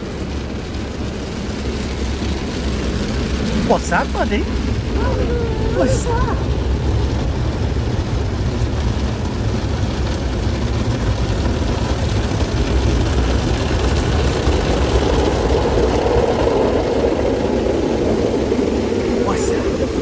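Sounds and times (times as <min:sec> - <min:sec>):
car wash water and machinery: 0:00.0 - 0:20.0.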